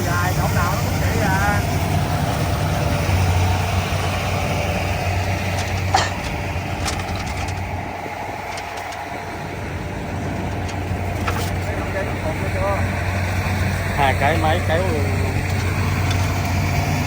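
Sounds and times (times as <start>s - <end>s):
farm machine engine running: 0.0s - 17.0s.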